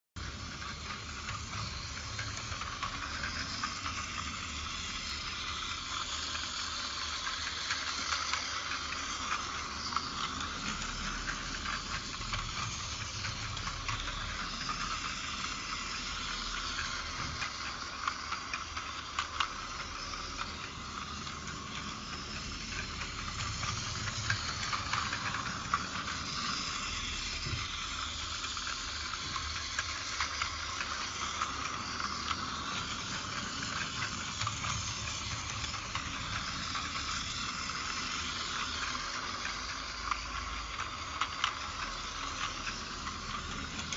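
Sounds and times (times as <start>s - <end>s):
toy train motor whirring: 0.2s - 43.9s
wheels clicking on track: 0.2s - 43.9s.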